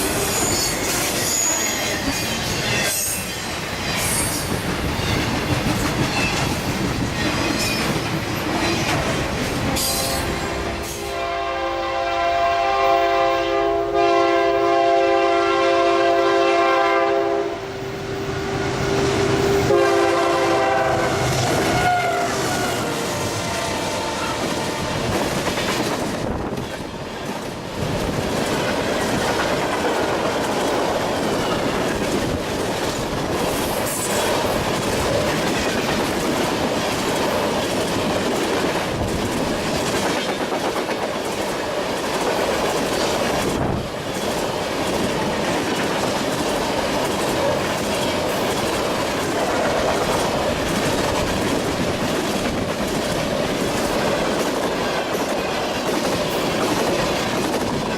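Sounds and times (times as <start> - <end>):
train wheels clattering over rails: 0.0 - 10.3, 20.6 - 57.9.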